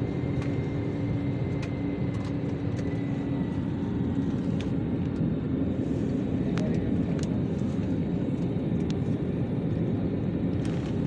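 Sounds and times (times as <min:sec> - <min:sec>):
aircraft low rumble: 0:00.0 - 0:11.0
faint constant hum: 0:00.0 - 0:11.0.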